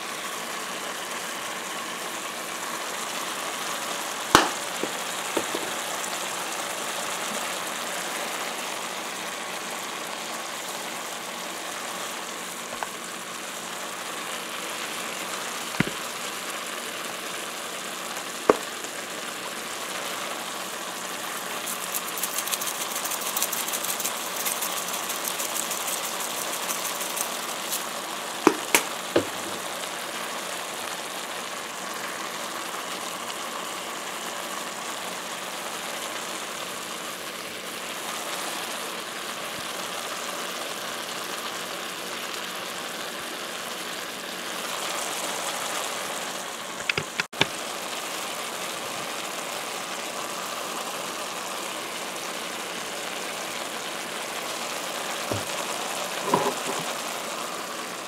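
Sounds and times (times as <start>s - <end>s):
food sizzling in a wok: 0.0s - 58.0s.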